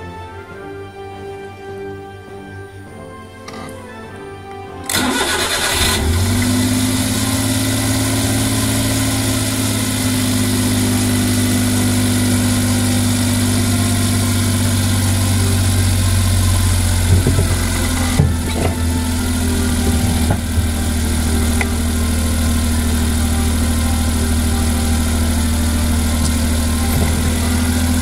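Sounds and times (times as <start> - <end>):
engine starting and idling: 4.9 - 28.0.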